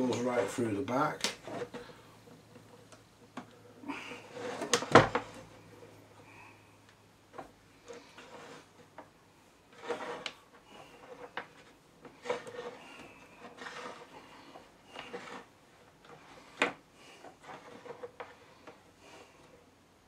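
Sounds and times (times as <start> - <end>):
power cord rubbing and scraping: 0.0 - 3.0, 3.9 - 6.1, 7.4 - 9.0, 9.6 - 19.6.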